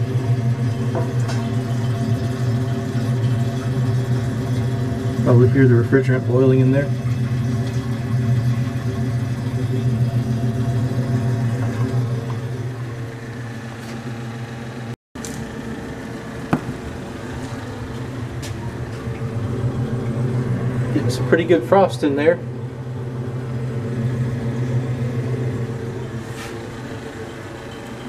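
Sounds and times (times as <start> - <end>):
refrigerator compressor humming: 0.0 - 28.0.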